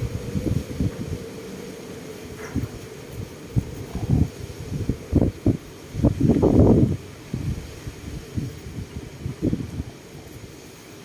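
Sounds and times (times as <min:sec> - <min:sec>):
trees rustling in wind: 0:00.0 - 0:11.0
wind buffeting microphone: 0:00.0 - 0:11.0.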